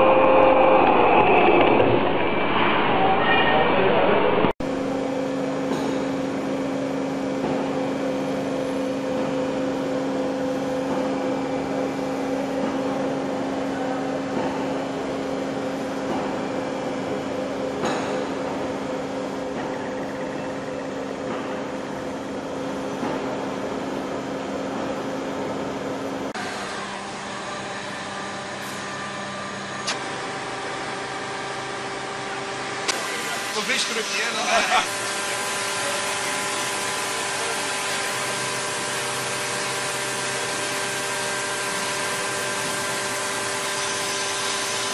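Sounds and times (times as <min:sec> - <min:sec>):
machinery humming: 0:00.0 - 0:44.9.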